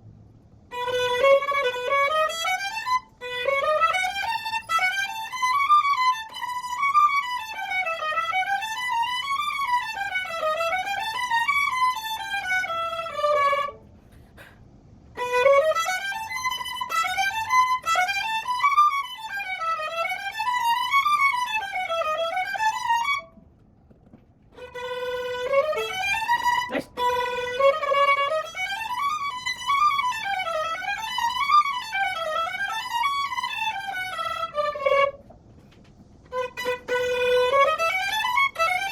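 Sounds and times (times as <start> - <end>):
violin playing quick runs: 0.7 - 14.0, 15.1 - 23.4, 24.5 - 38.9.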